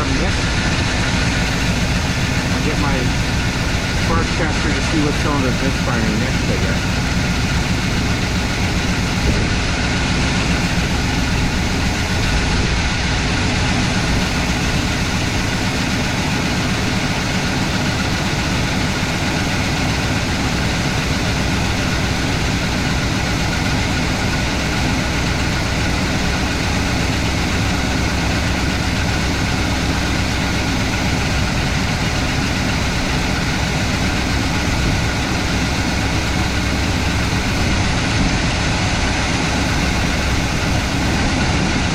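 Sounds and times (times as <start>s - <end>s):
truck engine idling: 0.0s - 41.9s.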